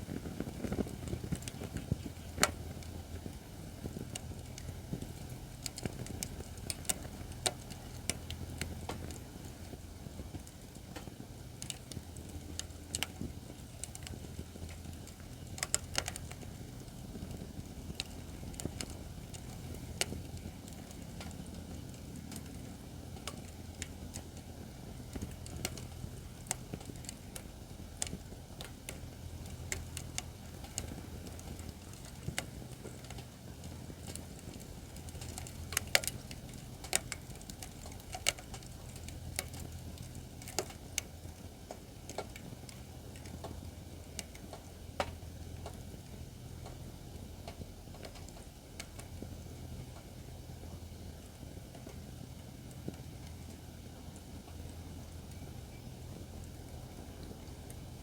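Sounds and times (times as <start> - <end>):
firewood crackling and popping: 0.0 - 58.0
low rumble of fire: 0.0 - 58.0.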